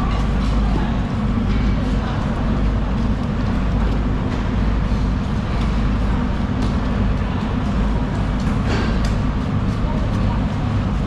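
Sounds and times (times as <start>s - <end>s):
busy background noise: 0.0s - 11.0s
large engine rumbling: 0.0s - 11.0s.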